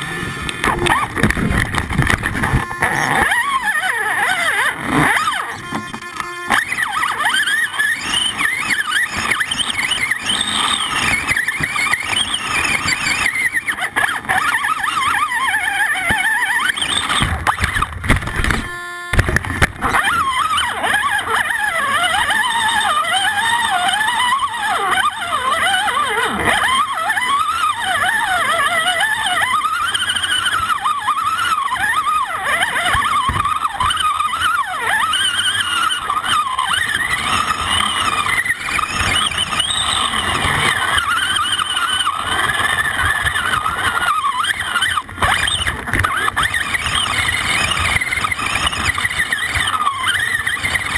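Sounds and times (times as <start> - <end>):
electric motor and gears whining: 0.0 - 50.9.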